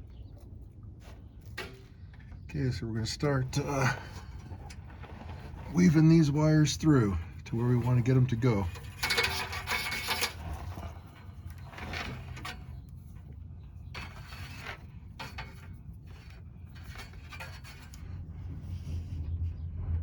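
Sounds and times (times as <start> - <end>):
wires scraping against metal frame: 1.1 - 19.2.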